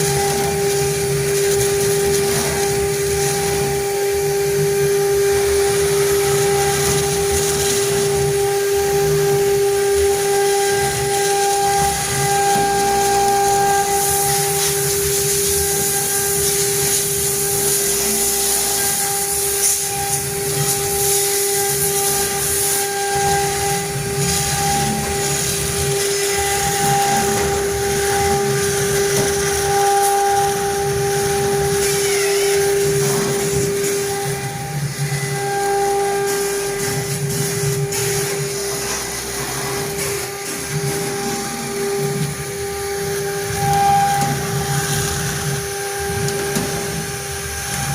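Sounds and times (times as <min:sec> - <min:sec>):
gritty stone cutting hiss: 0:00.0 - 0:08.7, 0:09.4 - 0:35.3, 0:36.2 - 0:47.9
router spindle whine: 0:00.0 - 0:47.9.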